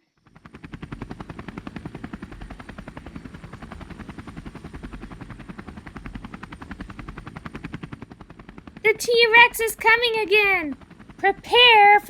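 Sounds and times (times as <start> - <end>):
helicopter rotor chop: 0.2 - 12.0.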